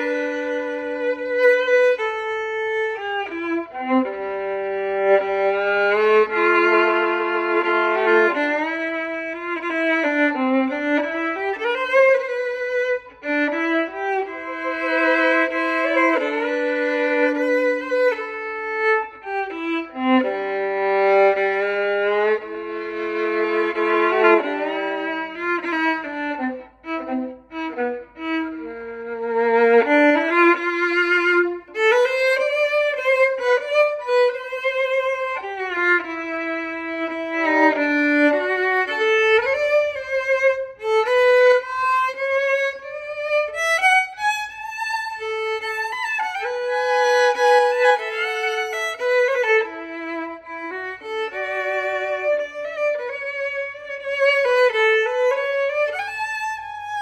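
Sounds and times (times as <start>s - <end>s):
solo fiddle playing waltz: 0.0s - 57.0s.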